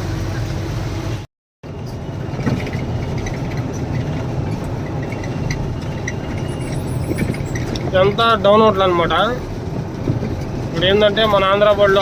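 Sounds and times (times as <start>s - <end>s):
lorry diesel engine running: 0.0s - 12.0s
road noise: 0.0s - 12.0s.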